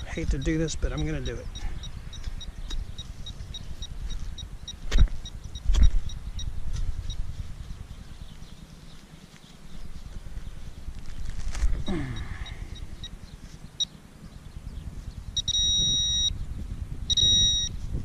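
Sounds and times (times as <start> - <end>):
faint electronic pips: 0.0 - 14.0, 15.4 - 16.3, 17.1 - 17.8.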